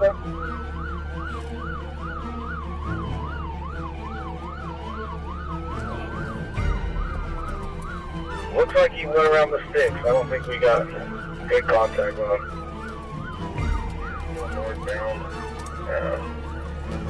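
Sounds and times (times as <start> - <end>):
police siren wailing: 0.0 - 17.0
police siren yelping: 0.0 - 17.0.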